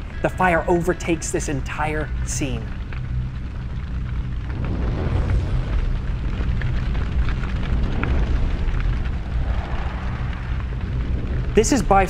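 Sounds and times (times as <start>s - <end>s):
fire crackles and pops: 0.0s - 12.0s
wildfire rumbling: 0.0s - 12.0s.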